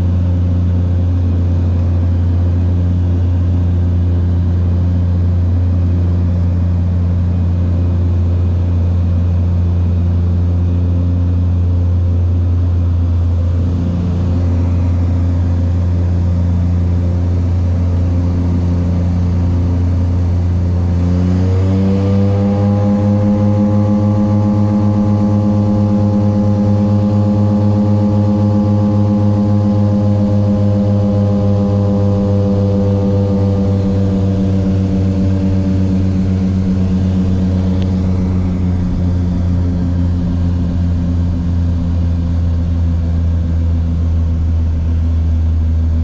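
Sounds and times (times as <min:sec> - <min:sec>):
turboprop engine droning: 0:00.0 - 0:46.0.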